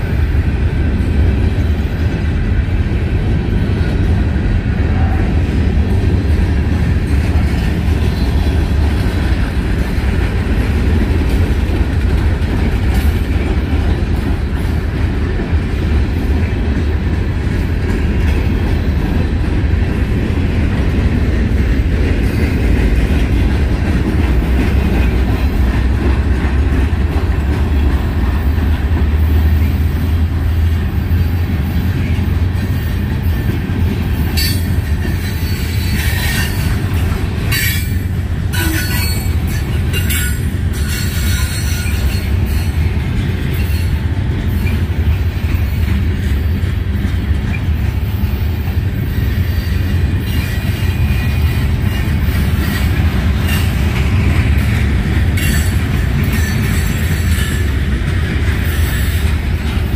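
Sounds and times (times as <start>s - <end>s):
freight train cars rolling: 0.0s - 59.9s
train clanks: 0.0s - 59.9s.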